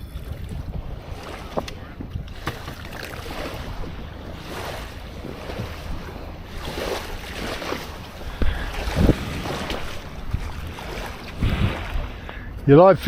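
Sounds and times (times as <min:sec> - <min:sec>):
waves lapping: 0:00.0 - 0:13.0
wind buffeting microphone: 0:00.0 - 0:13.0.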